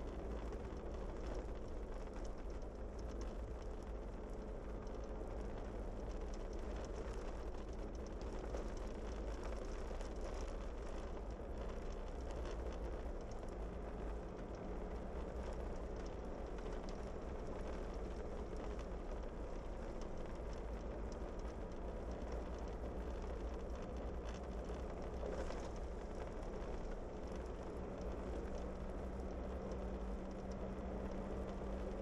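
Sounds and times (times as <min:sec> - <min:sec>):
gravel crackling under tyres: 0:00.0 - 0:32.0
low engine rumble: 0:00.0 - 0:32.0.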